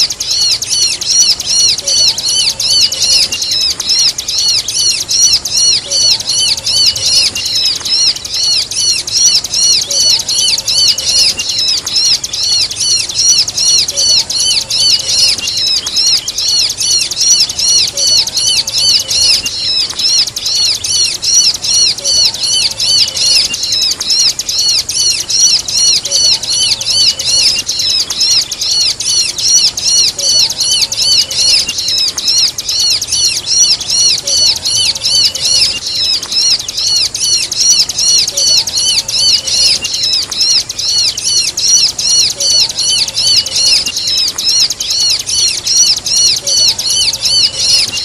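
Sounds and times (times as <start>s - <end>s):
bird calls: 0.0s - 48.0s
bird song with high chirps: 0.0s - 48.0s.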